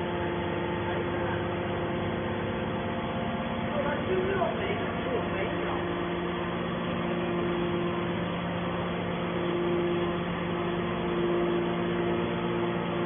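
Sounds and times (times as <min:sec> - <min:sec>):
baler motor humming: 0:00.0 - 0:13.0.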